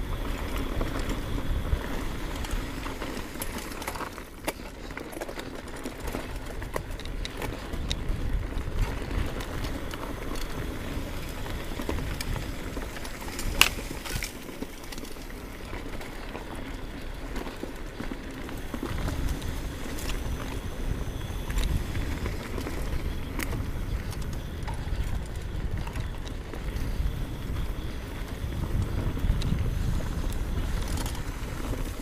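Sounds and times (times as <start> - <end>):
bike rattling clicks: 0.0 - 32.0
bike tyres rumbling on dirt: 0.0 - 32.0.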